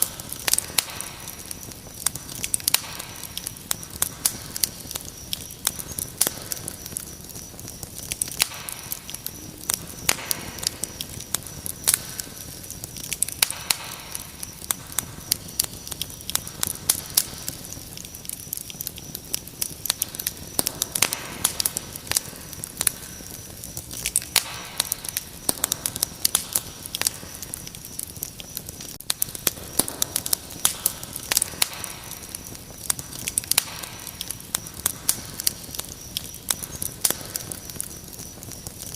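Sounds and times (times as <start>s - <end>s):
cricket trill: 0.0s - 38.9s
wood fire crackling: 0.0s - 38.9s.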